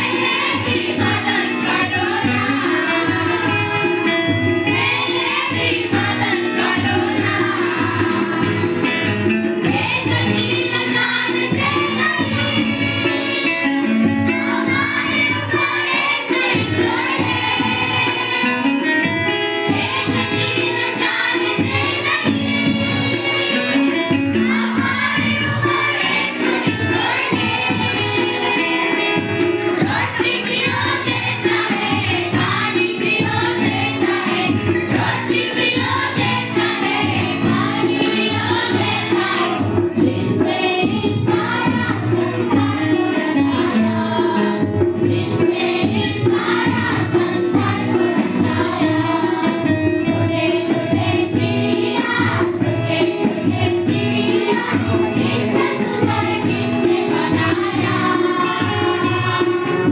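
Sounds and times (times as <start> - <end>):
chorus singing: 0.0 - 59.9
instrumental accompaniment: 0.0 - 59.9.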